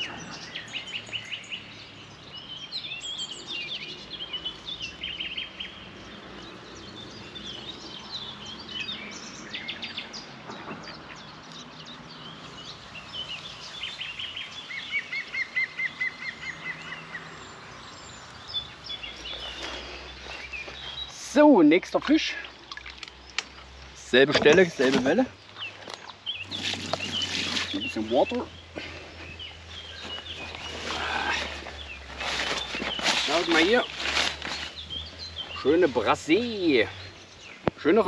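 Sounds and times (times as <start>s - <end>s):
songbirds chirping and warbling: 0.0s - 38.0s.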